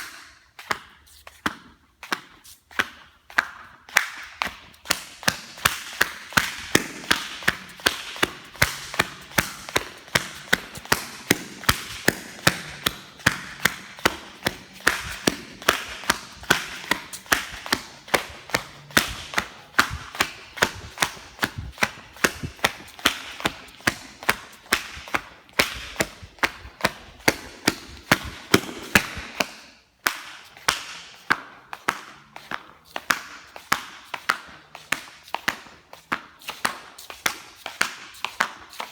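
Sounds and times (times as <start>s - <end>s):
flip-flop sandals slapping: 0.0s - 38.9s.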